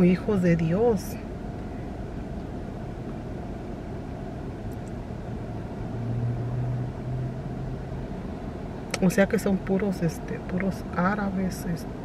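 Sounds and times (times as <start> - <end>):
car cabin rumble: 0.0 - 12.0
engine hum: 0.0 - 12.0.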